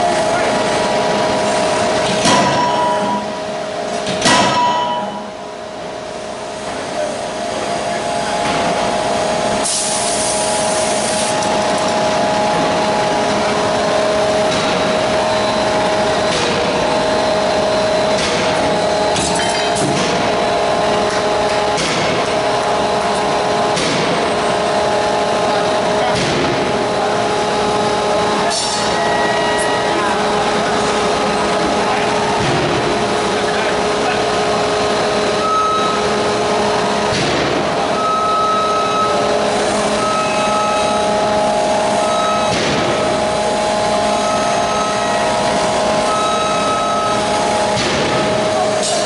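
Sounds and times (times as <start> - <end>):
machinery humming: 0.0 - 49.0.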